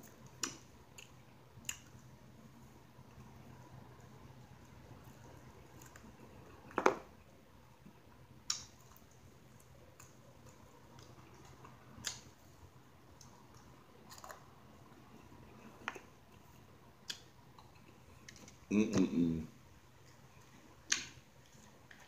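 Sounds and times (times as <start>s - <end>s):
faint chewing: 0.0s - 6.8s, 7.8s - 19.1s, 19.9s - 22.0s.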